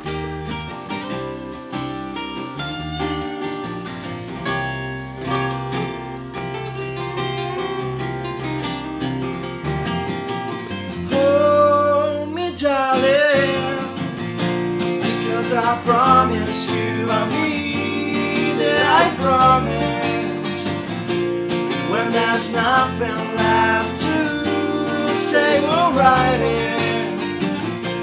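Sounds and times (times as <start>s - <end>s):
acoustic guitar strummed and picked: 0.0s - 28.0s.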